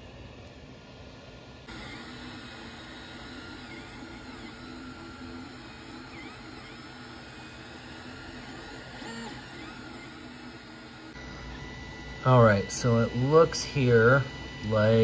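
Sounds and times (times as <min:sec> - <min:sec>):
steady whir: 0:00.0 - 0:15.0
stepper motors singing tones: 0:01.7 - 0:15.0.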